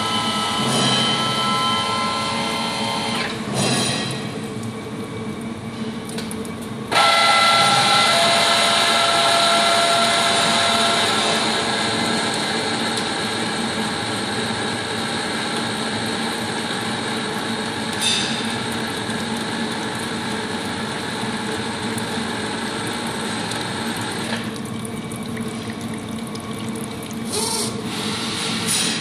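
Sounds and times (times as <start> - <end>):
milling machine hum with whine: 0.0 - 29.0.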